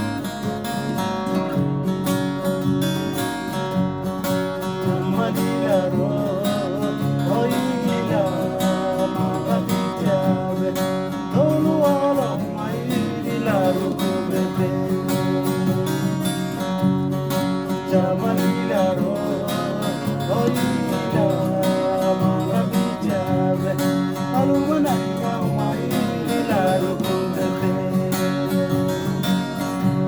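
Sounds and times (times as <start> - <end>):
strummed acoustic guitars: 0.0 - 30.0.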